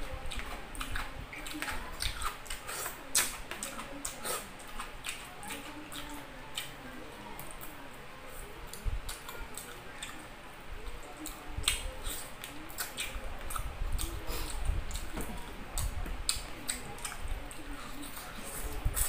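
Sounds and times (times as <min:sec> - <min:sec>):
wet chewing: 0:00.3 - 0:06.8, 0:08.7 - 0:10.2, 0:10.8 - 0:19.0.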